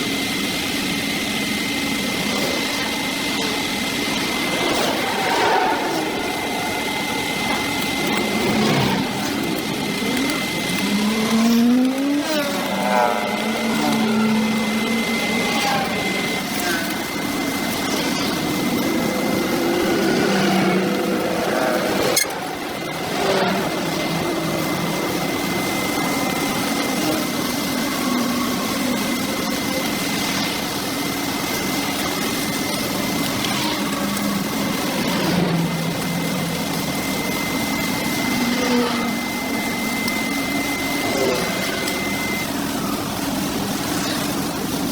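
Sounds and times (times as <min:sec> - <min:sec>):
small engine whining: 0:00.0 - 0:44.9.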